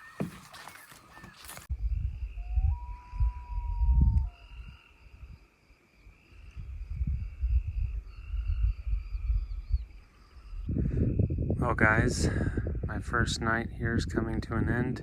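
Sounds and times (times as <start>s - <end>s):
wind buffeting microphone: 0.0s - 5.5s, 6.2s - 15.0s
insect chorus: 0.0s - 13.0s.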